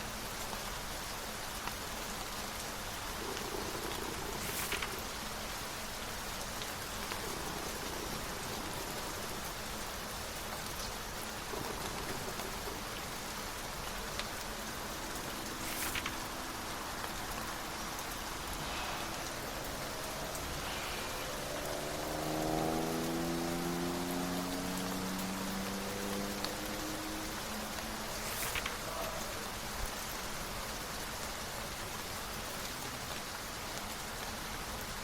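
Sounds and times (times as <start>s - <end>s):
faint ticks of raindrops: 0.0s - 35.0s
steady rain hiss: 0.0s - 35.0s.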